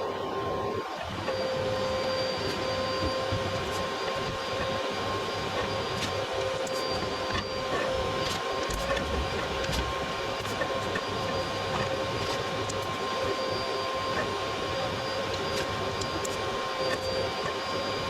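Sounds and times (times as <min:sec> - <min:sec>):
motor whining: 0:00.0 - 0:18.0.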